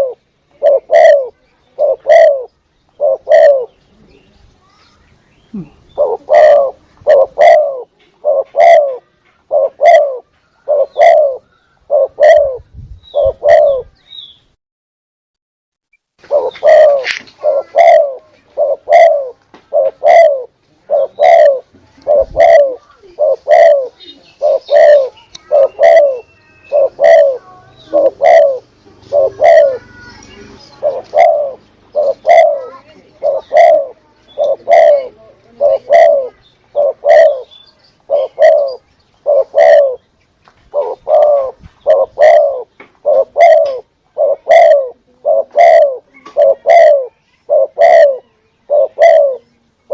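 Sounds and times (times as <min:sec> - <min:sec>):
dove cooing: 0:00.0 - 0:04.2, 0:05.5 - 0:14.0, 0:16.2 - 0:40.0, 0:40.7 - 0:49.9.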